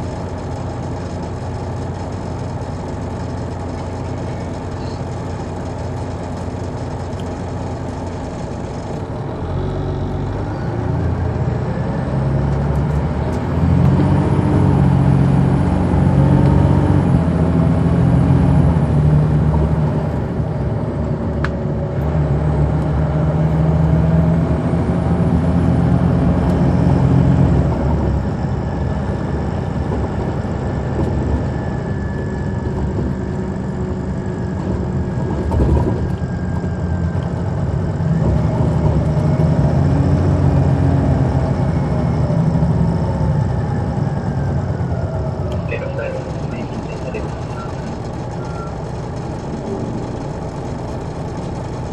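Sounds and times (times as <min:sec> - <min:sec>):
diesel engine pulling under load: 0:00.0 - 0:51.9.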